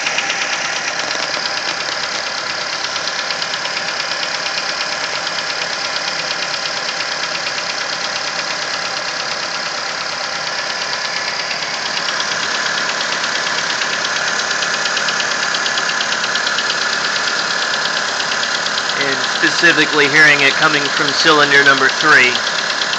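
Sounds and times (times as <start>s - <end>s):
car engine running: 0.0s - 22.9s
rapid engine tapping knock: 0.0s - 22.9s.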